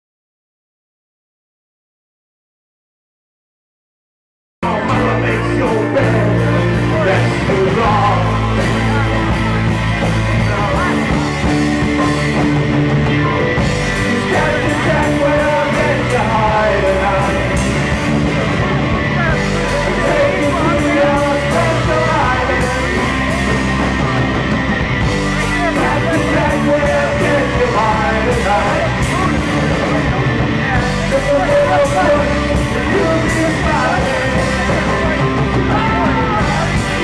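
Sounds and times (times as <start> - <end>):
person singing: 4.6 - 12.4, 13.3 - 37.0
rock band playing live: 4.6 - 37.0
steady drumbeat: 4.6 - 37.0.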